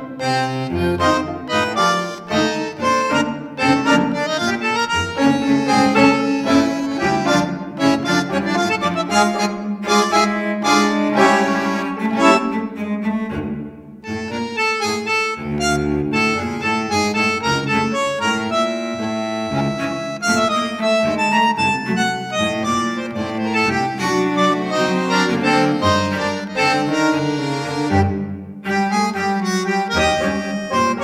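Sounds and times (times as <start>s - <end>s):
instrumental background music: 0.0s - 31.0s.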